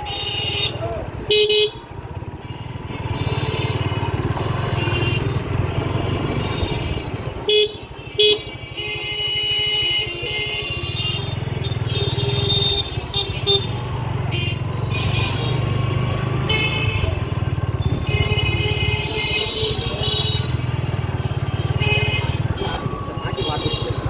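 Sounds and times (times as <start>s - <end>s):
vehicle horns honking: 0.0s - 22.7s, 23.3s - 24.0s
motorcycle engine running: 0.1s - 7.4s, 11.0s - 24.0s.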